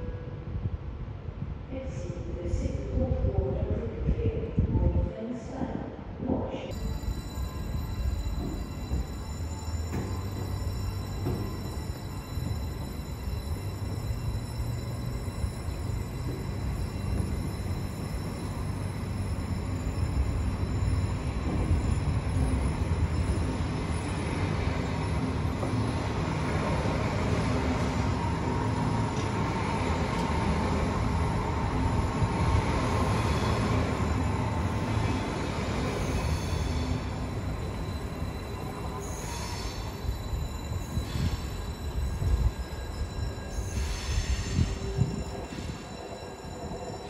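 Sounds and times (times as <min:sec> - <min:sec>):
high wheel squeal: 0:06.7 - 0:47.0
train wheels rumbling on rail: 0:06.7 - 0:47.0.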